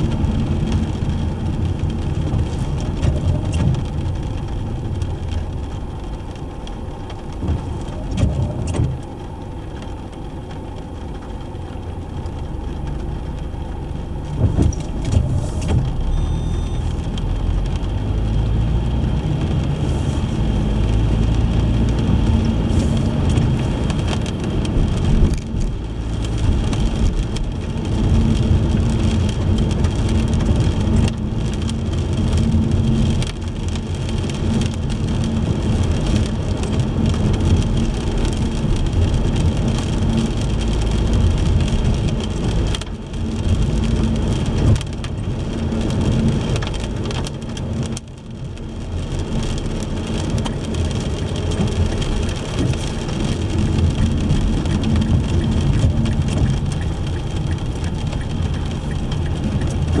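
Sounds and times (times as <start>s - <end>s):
rain hiss on wet pavement: 0.0s - 60.0s
road rumble: 0.0s - 60.0s.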